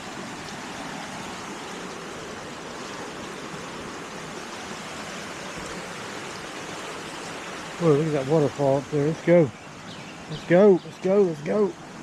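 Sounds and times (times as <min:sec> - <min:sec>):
pouring rain: 0:00.0 - 0:12.0
running water: 0:00.0 - 0:12.0.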